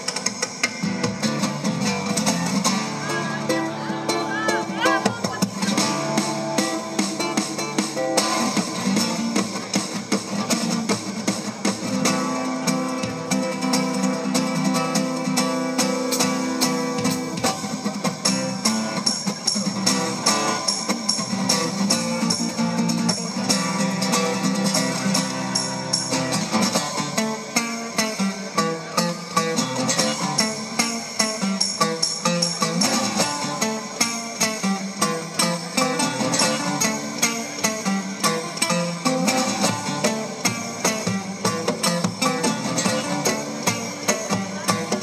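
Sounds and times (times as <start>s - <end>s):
acoustic guitar plucking: 0.0s - 45.0s.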